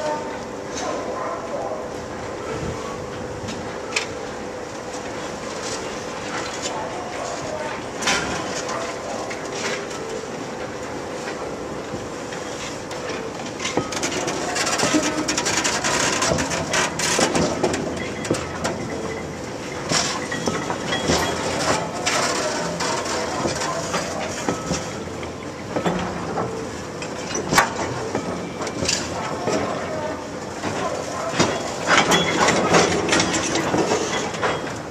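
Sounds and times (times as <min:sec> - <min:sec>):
rail wagons clanking: 0:00.0 - 0:34.9.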